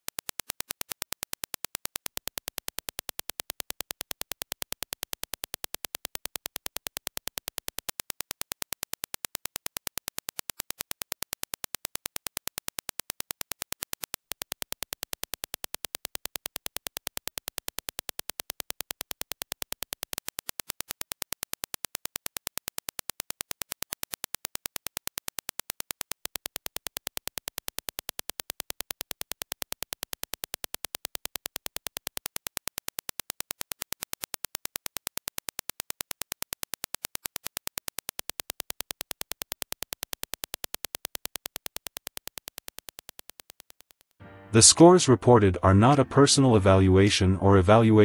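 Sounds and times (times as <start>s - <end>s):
rapid even sharp clicks: 0.0s - 44.2s.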